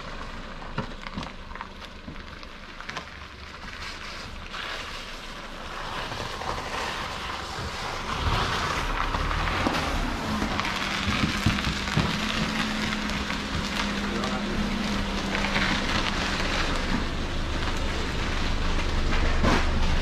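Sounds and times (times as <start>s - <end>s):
car engine: 0.0s - 20.0s
tyres on slush and gravel: 0.0s - 20.0s.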